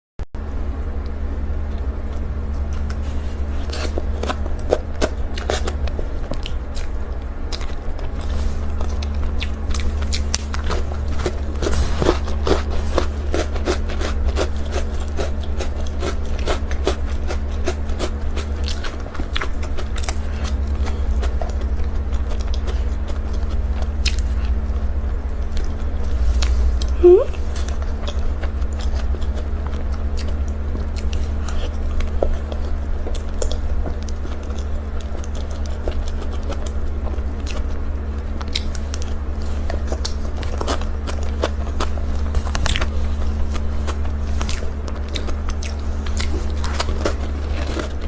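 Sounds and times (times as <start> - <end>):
low hum: 0.4 - 48.0
chewing and biting: 1.0 - 48.0.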